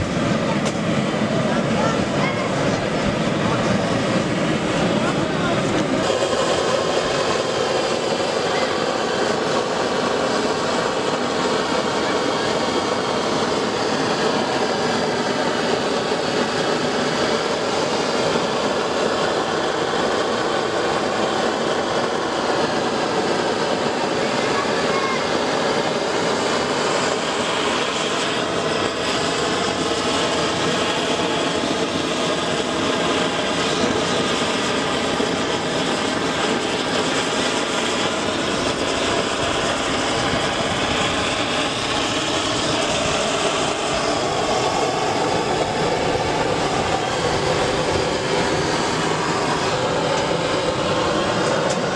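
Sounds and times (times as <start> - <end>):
blowtorch rushing hiss: 0.0 - 51.9.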